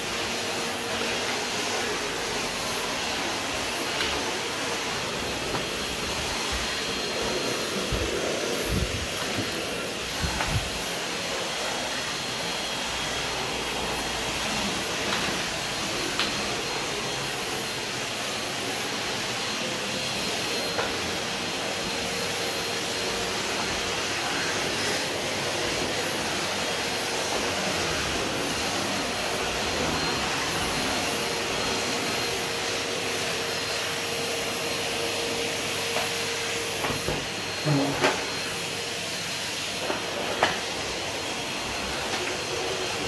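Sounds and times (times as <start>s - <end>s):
vacuum cleaner on wooden floor: 0.0s - 43.0s.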